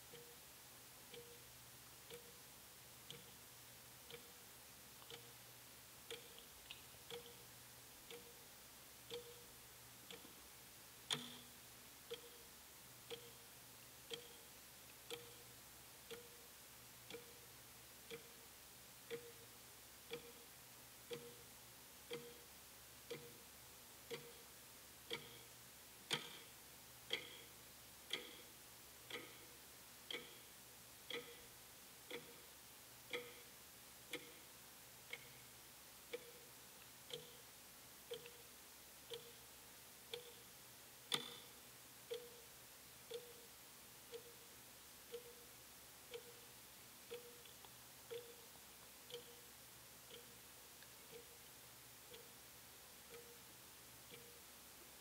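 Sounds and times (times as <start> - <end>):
wall clock ticking: 0.0 - 55.0.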